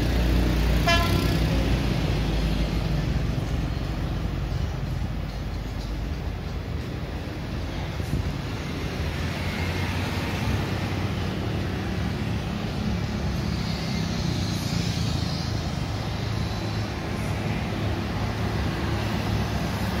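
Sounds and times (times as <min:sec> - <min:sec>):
railbus diesel drone: 0:00.0 - 0:20.0
street traffic: 0:00.0 - 0:20.0.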